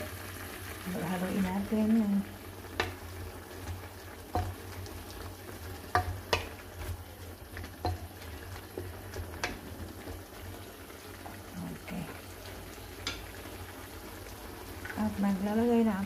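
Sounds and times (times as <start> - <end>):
vegetables sizzling: 0.0 - 16.0.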